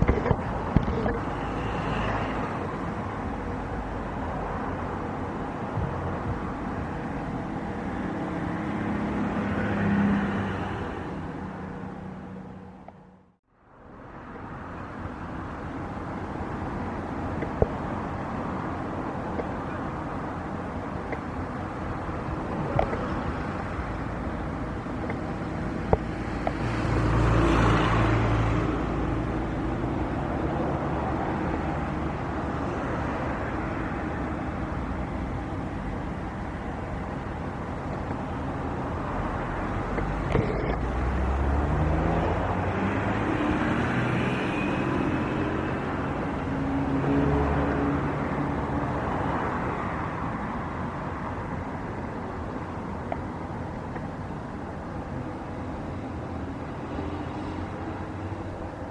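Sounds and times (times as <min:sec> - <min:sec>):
passing vehicle engines: 0:00.0 - 0:58.9.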